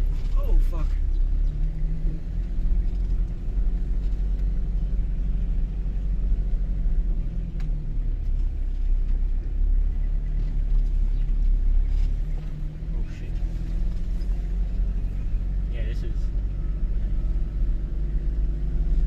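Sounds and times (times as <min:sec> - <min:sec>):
engine running under load: 0:00.0 - 0:19.0.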